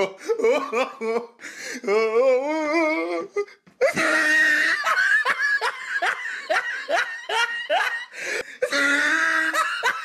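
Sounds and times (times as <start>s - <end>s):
person laughing: 0.0s - 10.0s.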